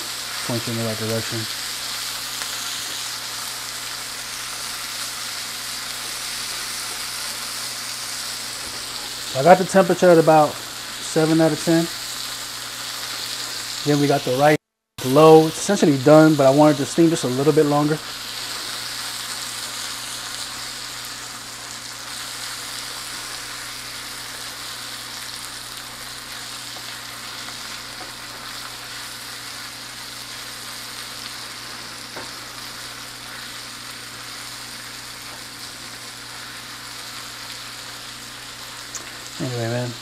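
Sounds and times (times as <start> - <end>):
meat and vegetables sizzling in pan: 0.0 - 40.0.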